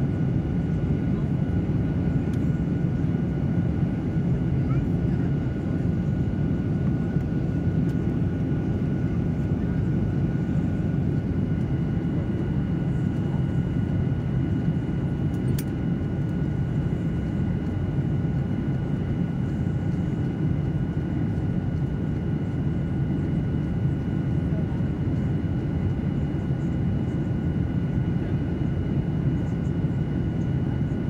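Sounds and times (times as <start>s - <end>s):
jet engine roar in cabin: 0.0s - 31.0s.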